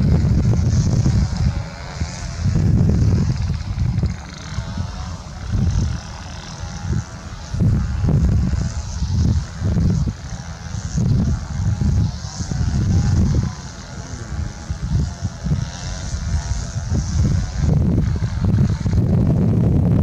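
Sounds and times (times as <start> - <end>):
jet engine noise: 0.0 - 20.0
wind buffeting microphone: 0.0 - 20.0.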